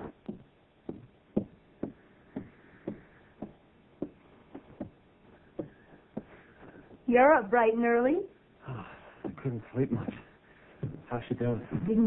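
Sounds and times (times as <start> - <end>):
footsteps on wooden stairs: 0.0 - 7.0, 9.0 - 12.0.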